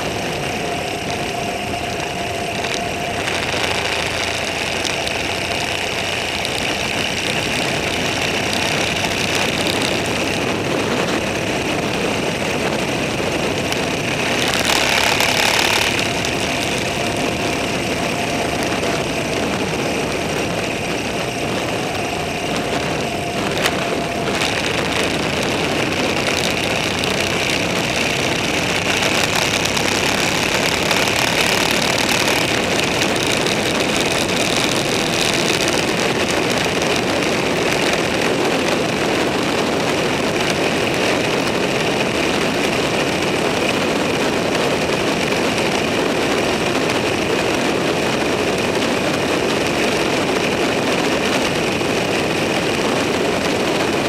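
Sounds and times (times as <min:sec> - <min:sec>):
road and wind noise: 0:00.0 - 0:54.0
vehicle engine running: 0:00.0 - 0:54.0.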